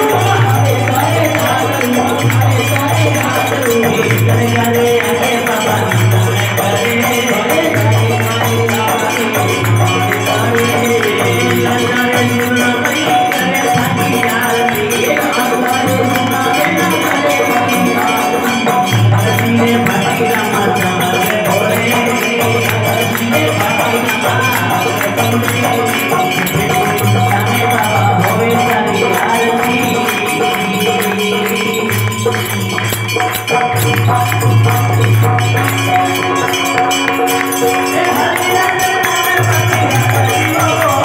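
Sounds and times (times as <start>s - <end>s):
devotional music: 0.0s - 41.0s
jingling percussion: 0.0s - 41.0s.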